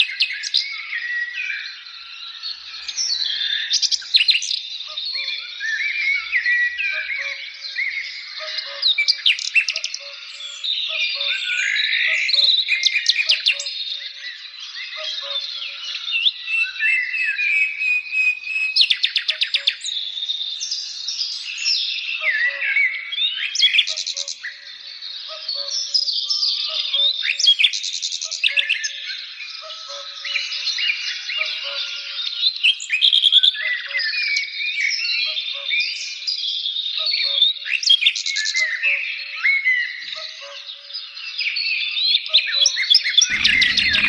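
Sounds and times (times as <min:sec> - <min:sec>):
songbirds singing: 0:00.0 - 0:44.0.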